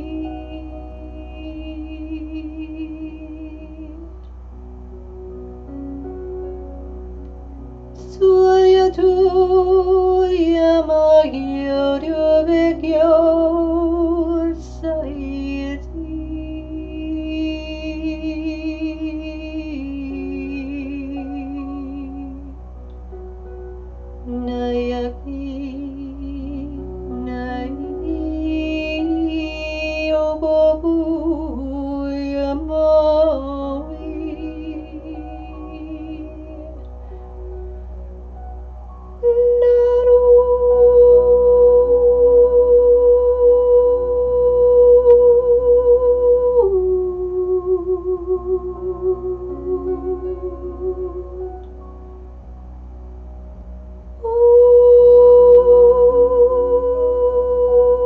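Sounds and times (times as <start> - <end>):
woman singing wordless vowels: 0.0 - 4.2, 8.0 - 22.6, 24.2 - 36.9, 39.2 - 51.7, 54.2 - 58.0
low ambient drone: 0.0 - 58.0
low steady hum: 0.0 - 58.0.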